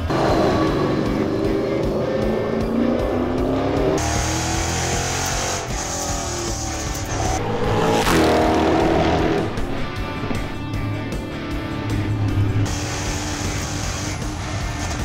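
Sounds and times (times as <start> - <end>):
background music: 0.0 - 15.0
race car engine revving: 0.0 - 15.0.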